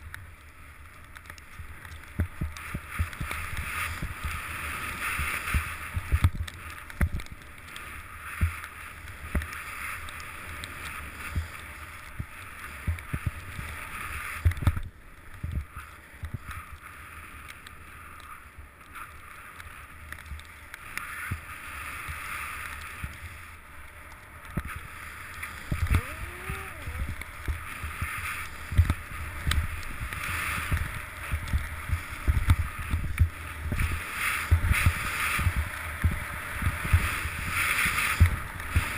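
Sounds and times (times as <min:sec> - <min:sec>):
rush of snow and air: 0:00.0 - 0:38.9.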